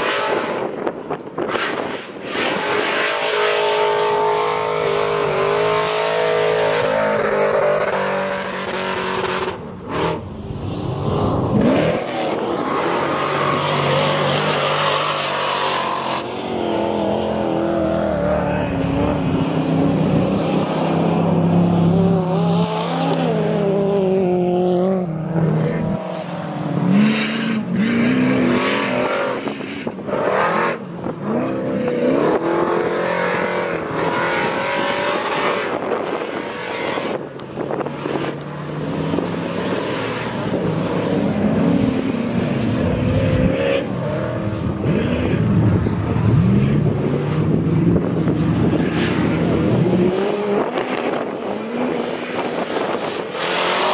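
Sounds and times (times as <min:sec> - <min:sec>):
race truck engines revving: 0:00.0 - 0:53.9.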